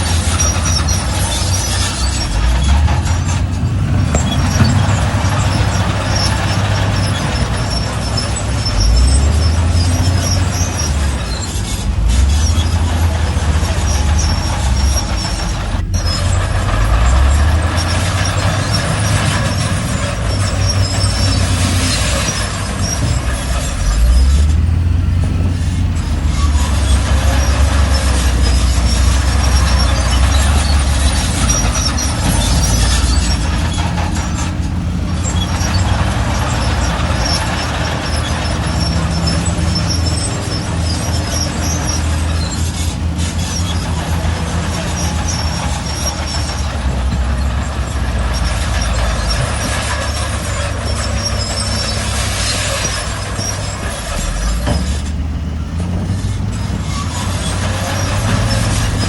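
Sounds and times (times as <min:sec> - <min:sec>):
heavy diesel engine rumble: 0:00.0 - 0:59.0
metallic squeaks and rattles: 0:00.0 - 0:59.0.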